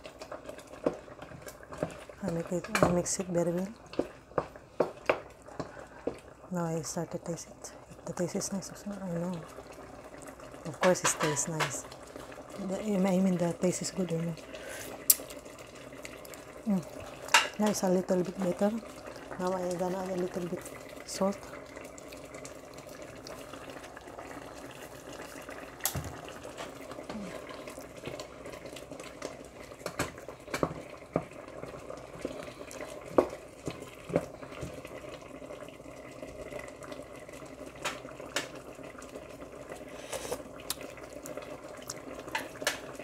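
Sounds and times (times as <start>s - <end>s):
curry bubbling in a pot: 0.0s - 43.0s.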